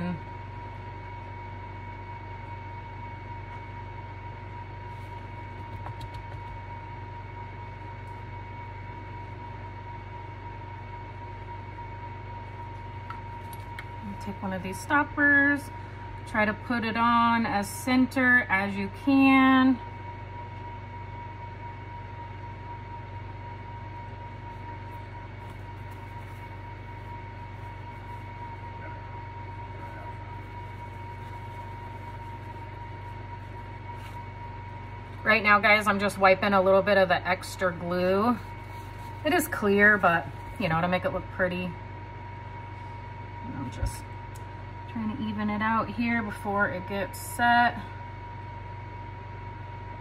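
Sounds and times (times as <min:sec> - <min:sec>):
electrical hum with high whine: 0:00.0 - 0:50.0.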